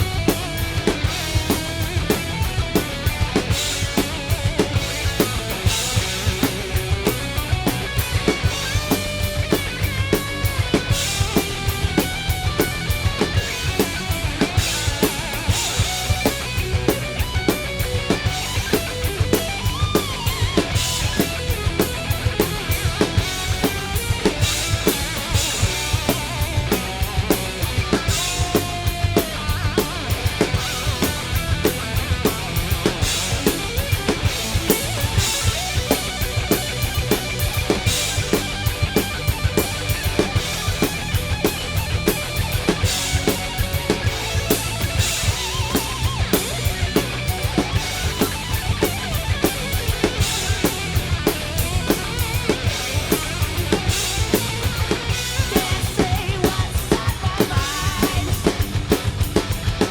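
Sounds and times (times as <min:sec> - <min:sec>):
drum kit played hard: 0:00.0 - 0:59.9
heavy metal song: 0:00.0 - 0:59.9.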